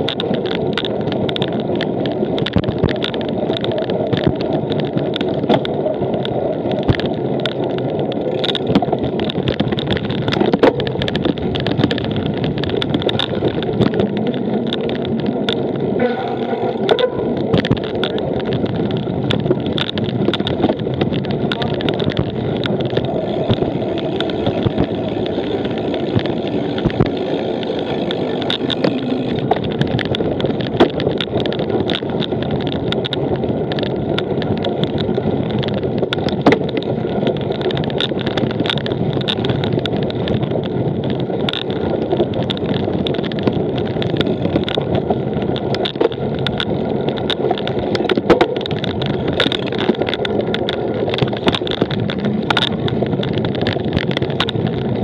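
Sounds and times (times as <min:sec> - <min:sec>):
bike rattles and clicks: 0:00.0 - 0:55.0
bike tyres rumbling: 0:00.0 - 0:55.0.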